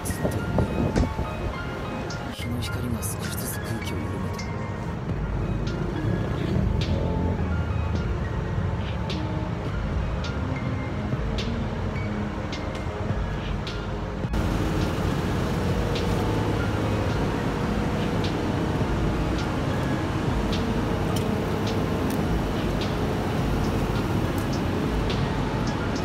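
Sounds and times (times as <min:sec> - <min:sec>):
low rumbling street noise: 0:00.0 - 0:26.0.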